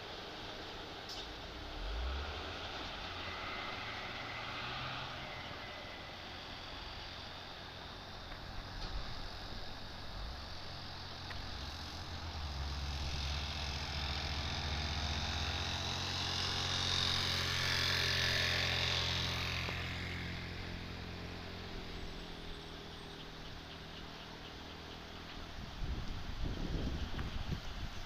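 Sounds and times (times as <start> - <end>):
truck engine drone: 0.0 - 28.0.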